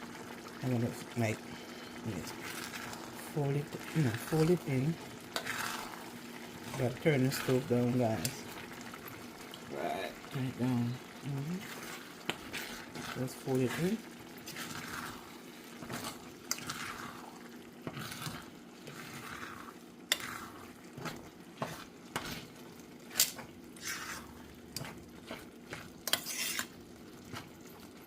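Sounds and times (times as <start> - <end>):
utensil scraping in a pot: 1.6 - 9.2, 9.8 - 27.8.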